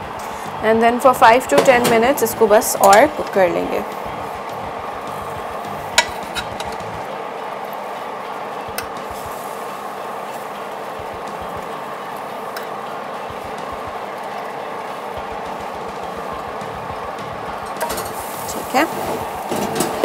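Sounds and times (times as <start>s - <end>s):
oven hiss: 0.0s - 20.0s.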